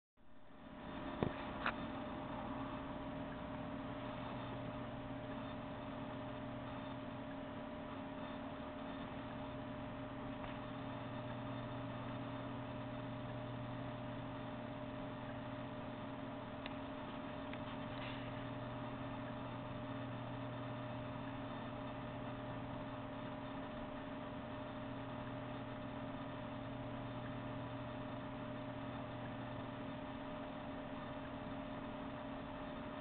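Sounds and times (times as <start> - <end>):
steady hum with tones: 0.2 - 33.0.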